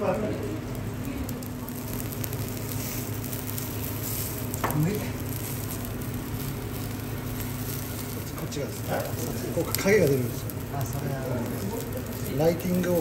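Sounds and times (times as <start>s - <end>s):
food sizzling: 0.0s - 13.0s
steady low hum: 0.0s - 13.0s.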